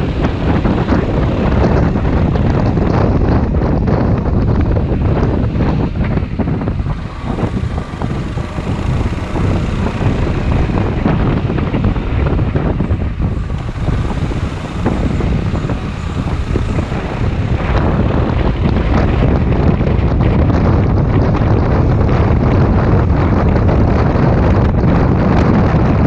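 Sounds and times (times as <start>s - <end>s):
scooter engine: 0.0s - 23.6s
wind rumble on microphone: 0.0s - 26.0s.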